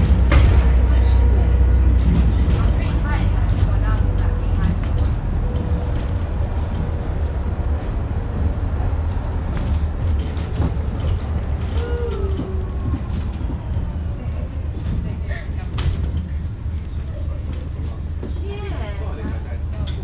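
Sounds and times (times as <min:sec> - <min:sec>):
bus drivetrain and road rumble: 0:00.0 - 0:20.0.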